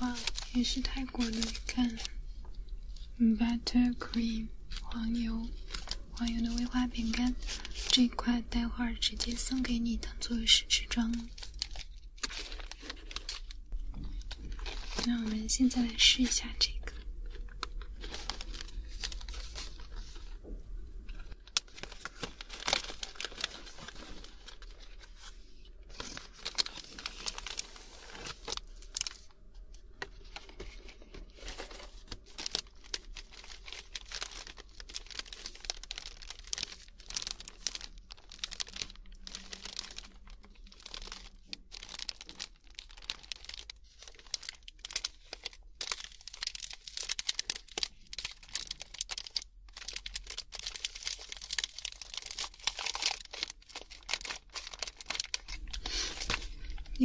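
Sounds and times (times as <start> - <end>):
biscuit packet crinkling and tearing: 0.0 - 20.4, 21.1 - 57.0.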